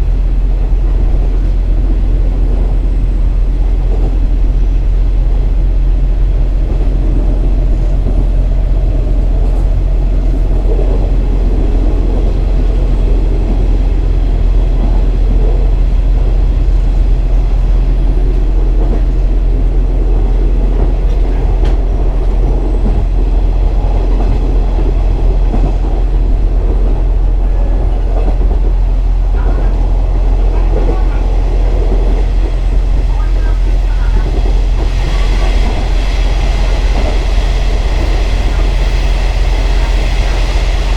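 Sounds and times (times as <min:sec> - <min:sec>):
diesel engine drone: 0:00.0 - 0:40.9
wheel and rail noise: 0:00.0 - 0:40.9.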